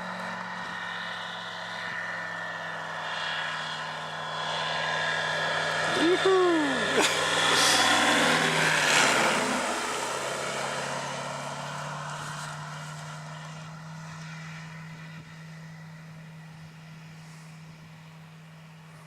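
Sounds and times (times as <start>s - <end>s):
propeller aircraft engine drone: 0.0s - 19.0s.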